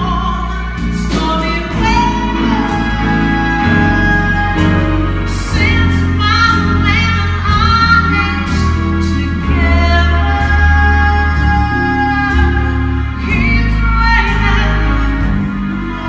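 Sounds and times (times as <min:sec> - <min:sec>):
low instrumental accompaniment: 0:00.0 - 0:16.0
woman singing a slow ballad: 0:00.0 - 0:16.0.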